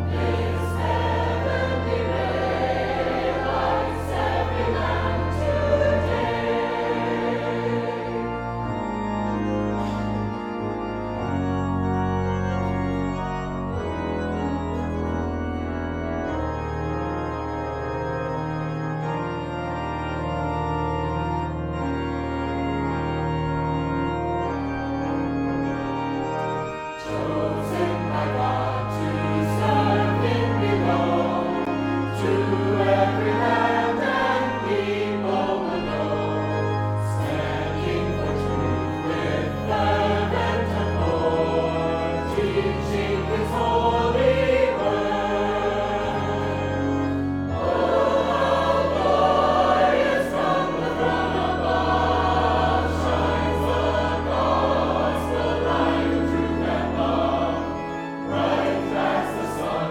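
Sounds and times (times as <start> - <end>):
choir singing a hymn: 0.0 - 23.0, 23.7 - 59.9
organ chords: 0.0 - 59.9.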